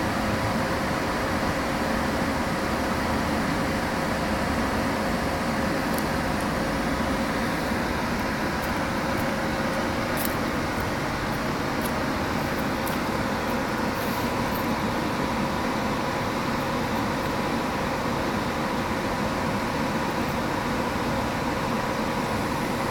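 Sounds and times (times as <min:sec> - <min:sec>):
locomotive mechanical hum: 0:00.0 - 0:22.9.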